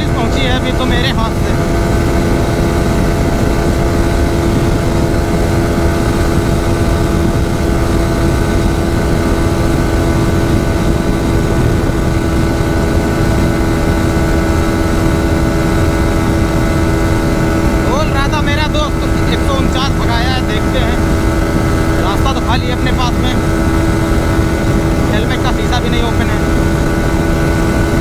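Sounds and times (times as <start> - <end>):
motorcycle engine at high revs: 0.0 - 28.0
wind on the microphone: 0.0 - 28.0.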